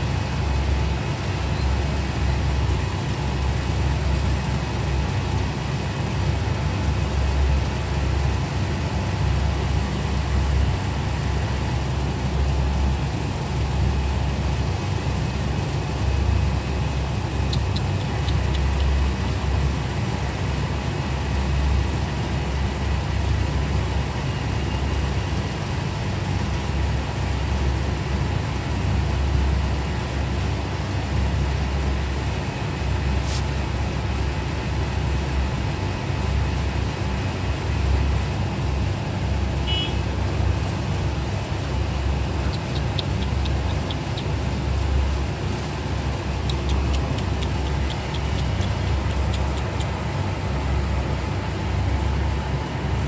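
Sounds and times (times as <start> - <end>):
engine rumbling: 0.0 - 53.0.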